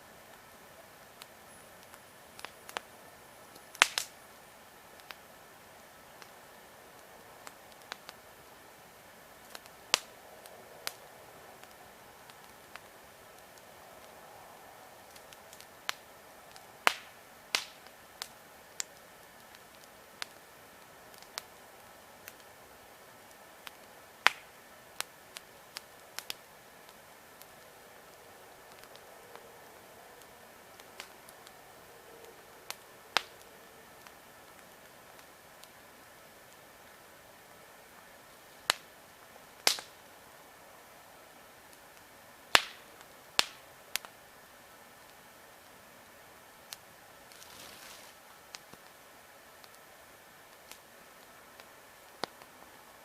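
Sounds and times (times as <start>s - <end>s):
campfire crackling: 0.0s - 53.0s
faint steady hiss: 0.0s - 53.0s
sharp pops from burning logs: 0.1s - 14.2s, 15.0s - 45.8s, 46.4s - 53.0s.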